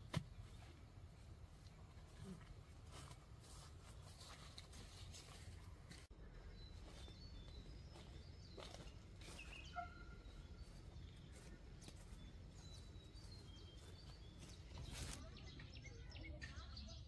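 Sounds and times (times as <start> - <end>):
footsteps rustling through weeds: 1.4 - 15.4.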